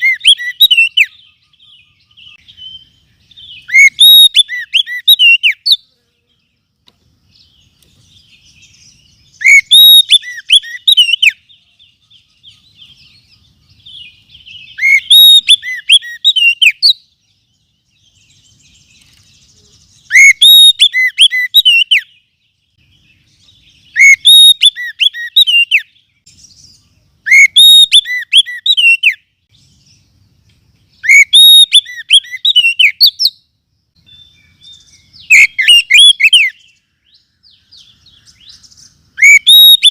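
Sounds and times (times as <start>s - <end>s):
recorded bird song whistles: 0.0s - 5.9s, 7.3s - 30.2s, 30.8s - 39.9s
faint bird twittering: 0.0s - 39.9s.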